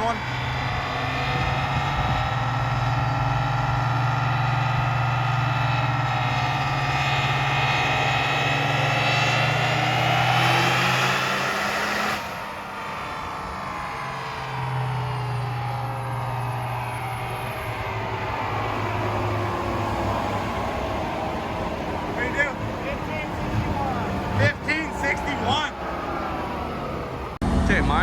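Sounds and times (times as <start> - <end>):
diesel engine revving: 0.0 - 28.0.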